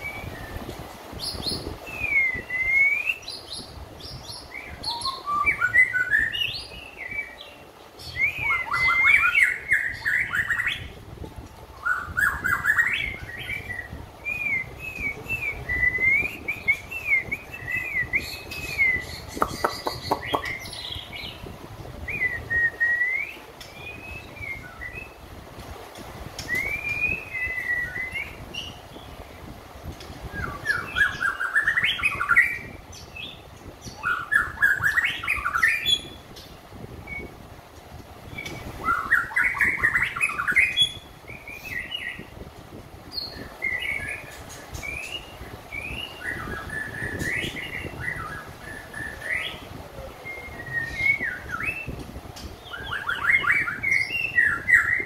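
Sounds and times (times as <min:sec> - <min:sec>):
bird singing whistled notes: 0:00.0 - 0:11.0, 0:11.8 - 0:25.3, 0:26.3 - 0:29.3, 0:30.2 - 0:37.5, 0:38.2 - 0:42.4, 0:43.1 - 0:55.0.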